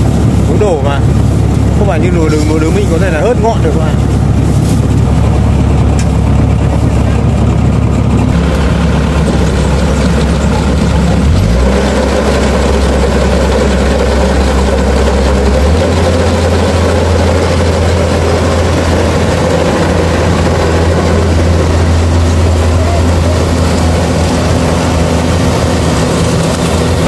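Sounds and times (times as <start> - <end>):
combine harvester diesel engine: 0.0 - 27.0
harvesting machinery rattle: 0.0 - 27.0.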